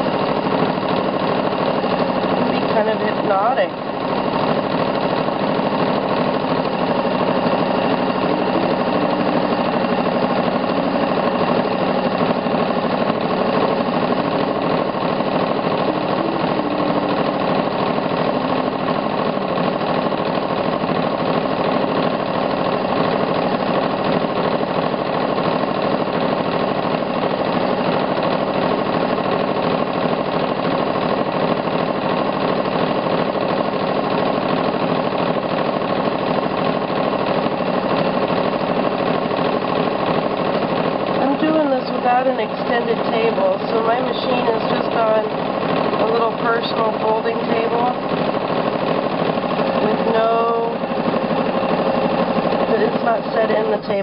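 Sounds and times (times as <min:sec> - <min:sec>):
sewing machine running: 0:00.0 - 0:54.0.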